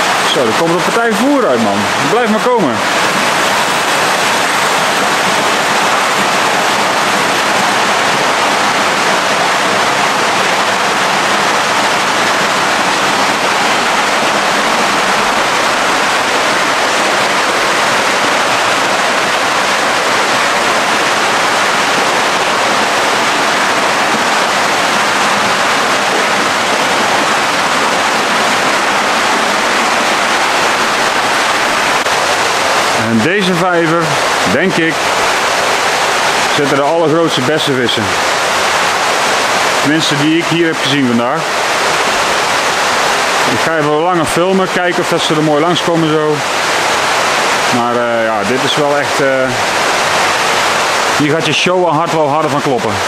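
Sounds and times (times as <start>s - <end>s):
water pouring into pond: 0.0s - 53.0s.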